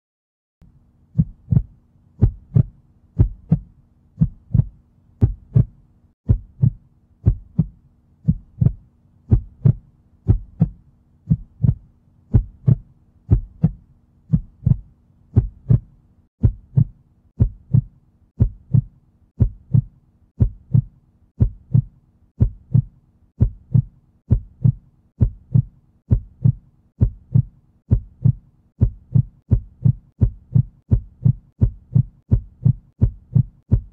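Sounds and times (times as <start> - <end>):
faint low hum: 0.6 - 33.9
heartbeat thumps: 1.1 - 33.9.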